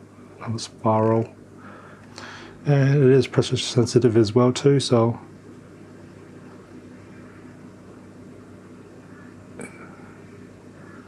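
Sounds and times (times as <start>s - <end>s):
low room hum and hiss: 0.0s - 11.0s.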